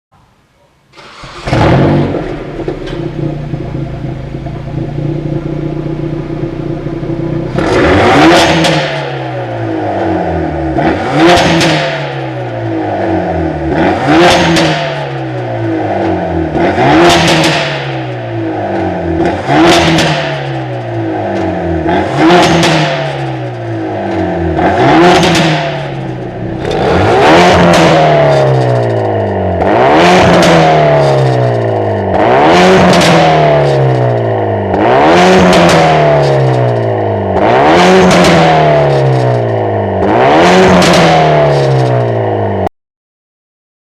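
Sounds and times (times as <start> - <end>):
exhaust popping and crackling: 0.9 - 9.2, 13.9 - 42.5
car engine idling and revving: 1.0 - 42.7.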